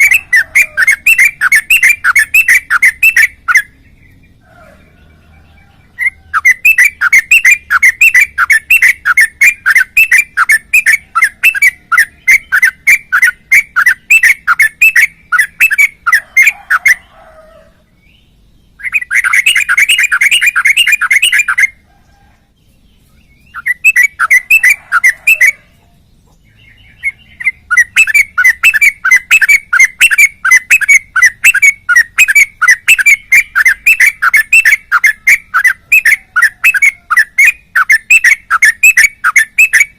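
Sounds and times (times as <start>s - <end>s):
bird singing fast repeated notes: 0.0s - 21.9s, 22.5s - 39.9s.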